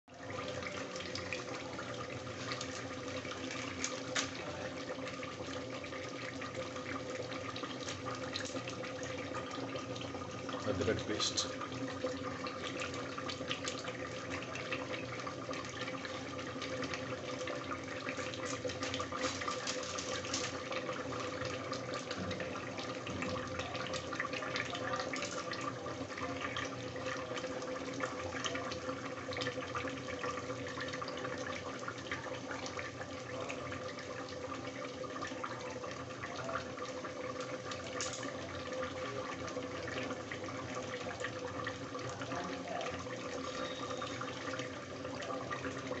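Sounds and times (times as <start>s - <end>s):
meat sizzling in hot fat: 0.1s - 33.2s, 39.8s - 46.0s.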